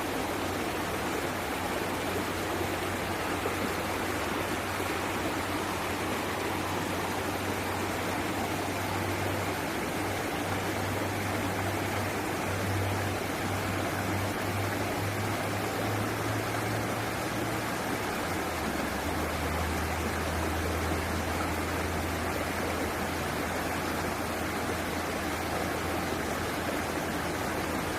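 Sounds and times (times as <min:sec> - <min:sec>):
rushing water: 0:00.0 - 0:27.9.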